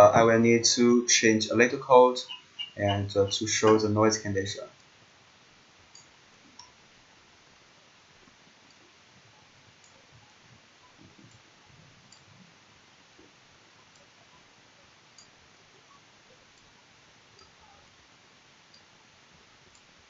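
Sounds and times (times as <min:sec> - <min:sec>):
faint room hiss: 0:00.0 - 0:20.0.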